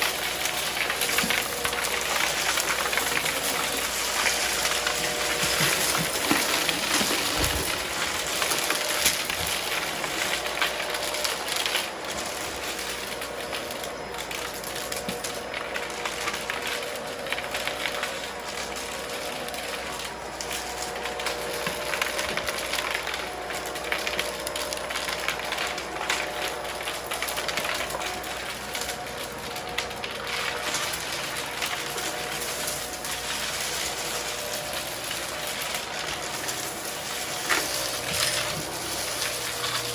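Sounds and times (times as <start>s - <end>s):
debris crackling through vacuum: 0.0s - 39.9s
vacuum cleaner motor hum: 0.0s - 39.9s.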